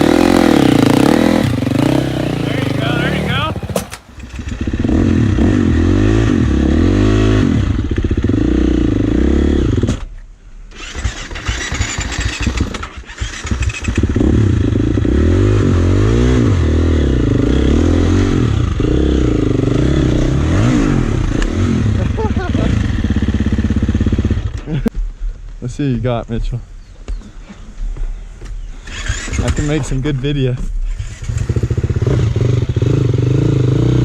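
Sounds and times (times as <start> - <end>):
dirt bike engine revving: 0.0 - 10.0, 10.7 - 24.8, 28.8 - 30.0, 30.8 - 34.0.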